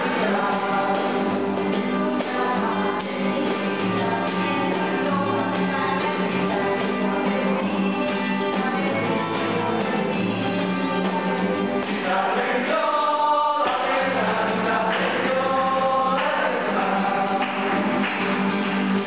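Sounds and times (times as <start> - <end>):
acoustic guitar: 0.0 - 19.0
group singing: 0.0 - 19.0.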